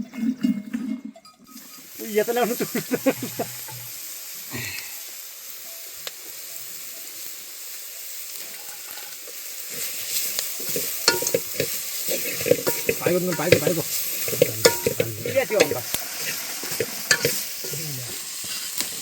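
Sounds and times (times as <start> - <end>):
steady hiss: 1.6 - 19.0.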